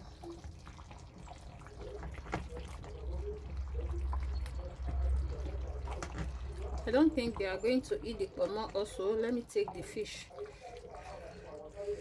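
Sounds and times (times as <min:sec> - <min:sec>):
ladle stirring thick soup: 0:00.0 - 0:12.0
liquid slopping: 0:00.0 - 0:12.0.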